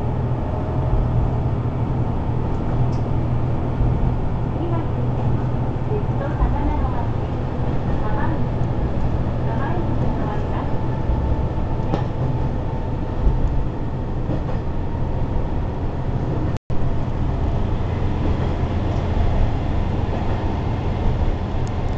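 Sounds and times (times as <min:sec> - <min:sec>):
railcar engine rumble: 0:00.0 - 0:21.9
train wheels on track: 0:00.0 - 0:21.9.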